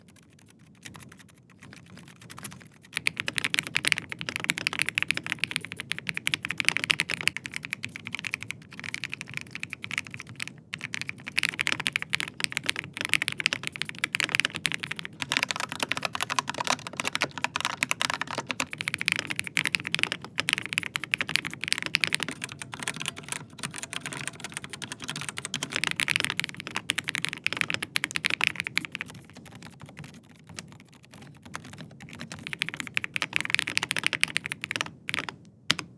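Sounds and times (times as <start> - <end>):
quiet keyboard typing: 0.0 - 35.9
typing on mechanical keyboard: 0.0 - 35.9.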